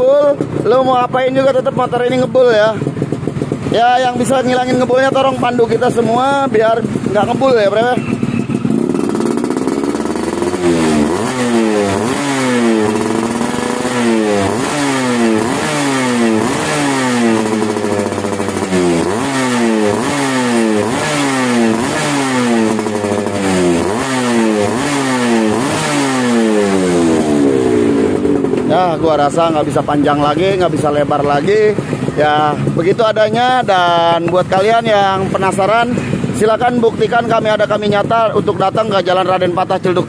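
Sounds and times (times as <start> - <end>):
two-stroke engine revving: 0.0 - 40.0.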